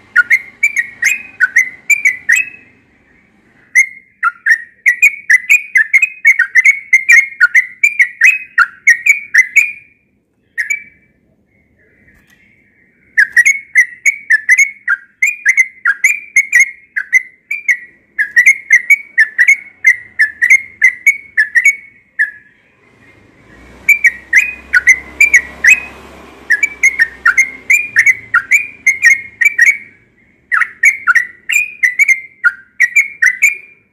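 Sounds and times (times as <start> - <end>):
bird singing whistled notes: 0.0 - 33.9.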